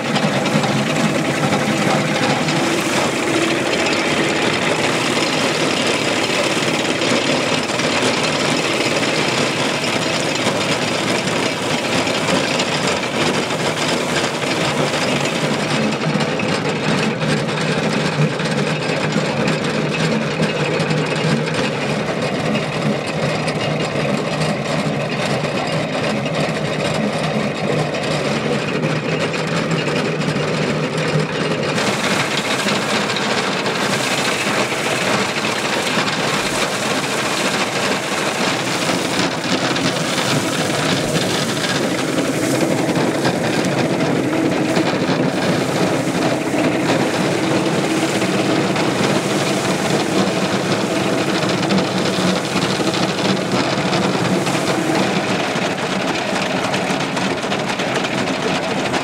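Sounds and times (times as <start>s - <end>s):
threshing machinery clatter: 0.0s - 59.0s.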